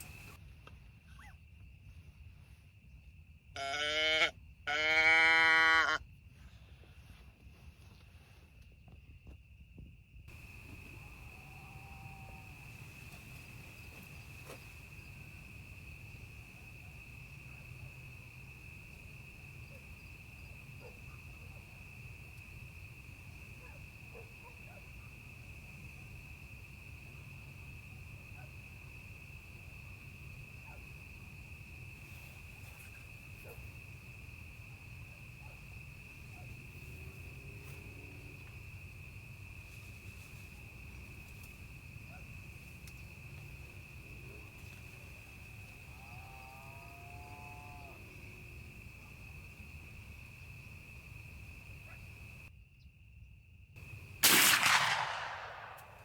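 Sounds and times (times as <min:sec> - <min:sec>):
insects chorus: 0:00.0 - 0:00.4, 0:01.2 - 0:56.0.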